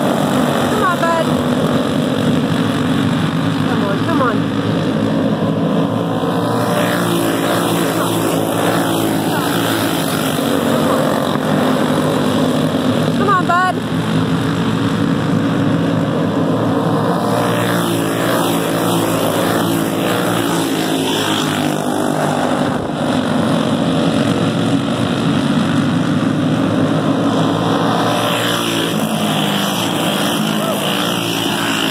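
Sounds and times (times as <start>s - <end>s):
go-kart engines racing: 0.0s - 31.9s.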